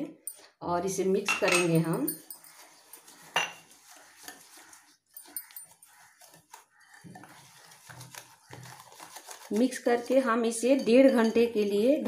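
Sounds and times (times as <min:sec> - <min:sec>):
fingers mixing wet batter: 0:01.7 - 0:12.0.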